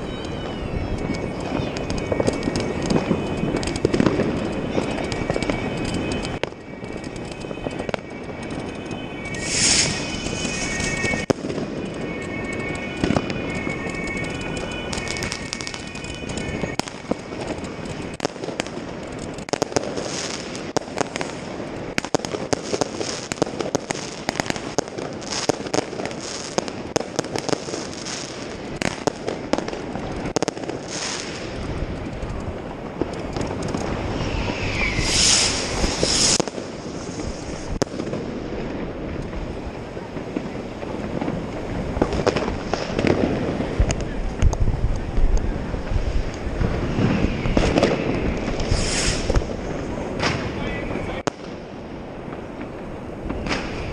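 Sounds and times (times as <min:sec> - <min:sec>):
fireworks bangs and crackles: 0:00.0 - 0:53.9
rising firework whistle: 0:00.0 - 0:53.9.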